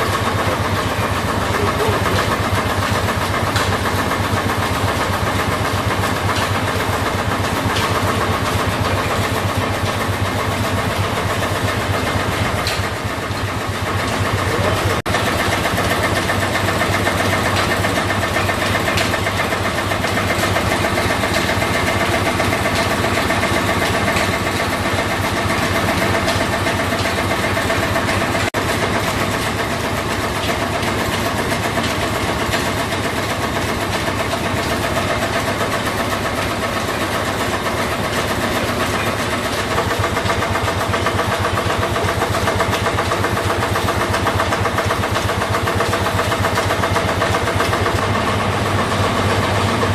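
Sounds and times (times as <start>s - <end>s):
stationary engines running: 0.0s - 49.9s.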